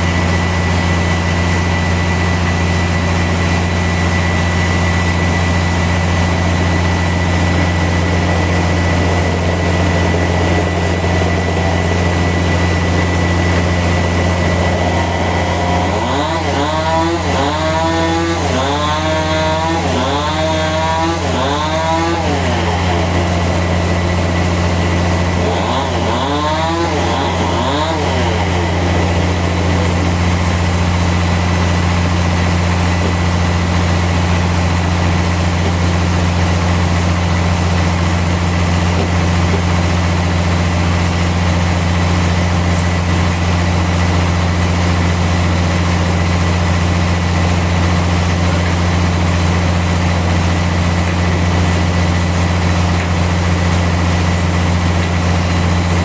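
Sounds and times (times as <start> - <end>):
sawmill engine drone: 0.0 - 56.0.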